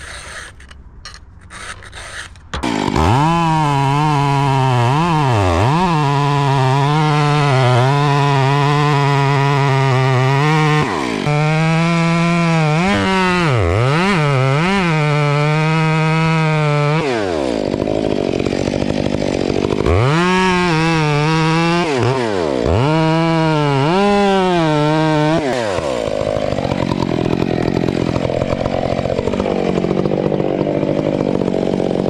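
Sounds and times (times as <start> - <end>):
chainsaw engine revving: 2.6 - 32.0.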